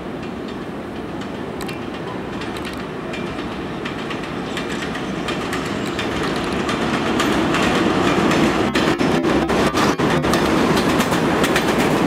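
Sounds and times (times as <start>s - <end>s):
train rumbling on elevated track: 0.0s - 12.0s
wheels clicking over rail joints: 0.1s - 12.0s.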